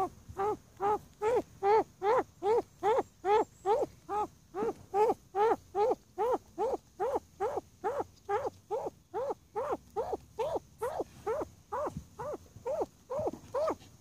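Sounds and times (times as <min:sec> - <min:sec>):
pheasant calling: 0:00.0 - 0:13.9.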